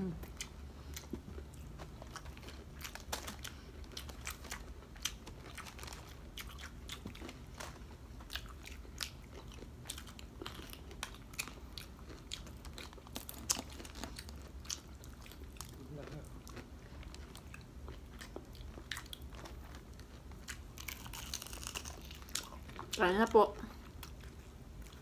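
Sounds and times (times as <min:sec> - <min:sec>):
chewing crispy fried food: 0:00.0 - 0:25.0.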